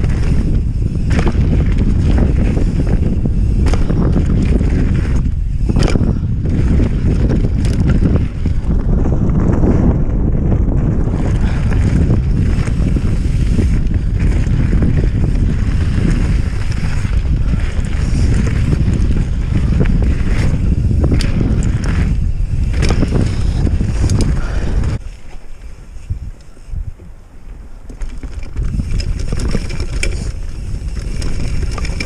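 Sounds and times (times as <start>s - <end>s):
bike clicking and rattling: 0.0s - 32.0s
wind rushing over microphone: 0.0s - 32.0s.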